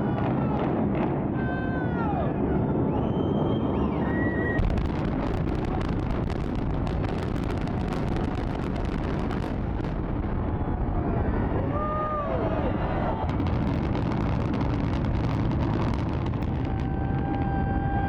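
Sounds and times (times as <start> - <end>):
deep continuous rumble: 0.0 - 18.0.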